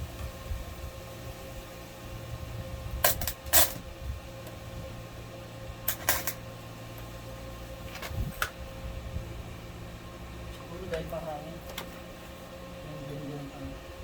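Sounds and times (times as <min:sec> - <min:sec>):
welding machine humming: 0:00.0 - 0:14.0.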